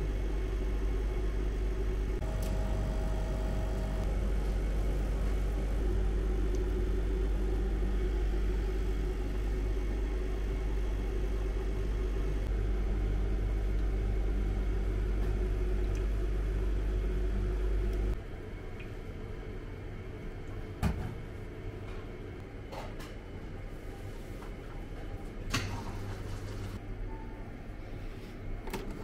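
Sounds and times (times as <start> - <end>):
low machine hum and rumble: 0.0 - 29.0.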